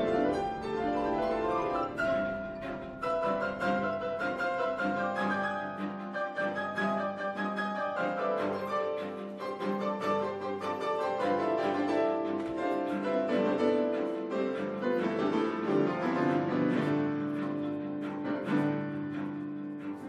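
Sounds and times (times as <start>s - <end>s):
low bowed strings: 0.0s - 20.0s
piano notes: 0.0s - 20.0s.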